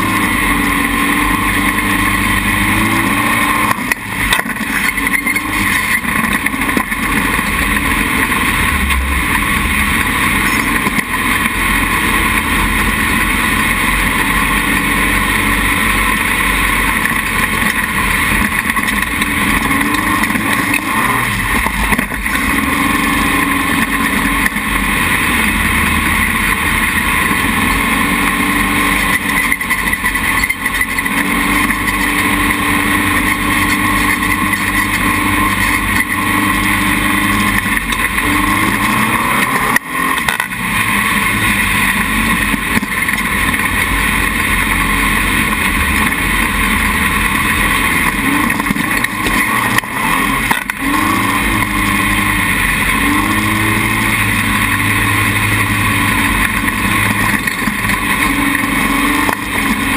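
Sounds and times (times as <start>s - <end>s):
dune buggy engine running: 0.0s - 59.9s.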